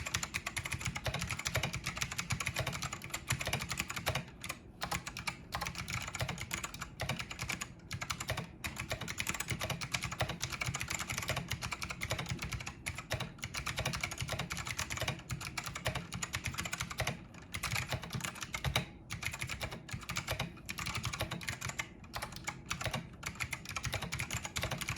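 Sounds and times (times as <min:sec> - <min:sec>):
fast typing on clicky keyboard: 0:00.0 - 0:24.9.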